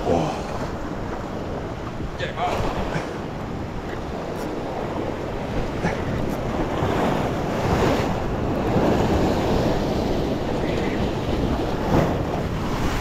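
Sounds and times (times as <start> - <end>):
waves washing against rock: 0.0 - 13.0
wind buffeting microphone: 0.0 - 13.0.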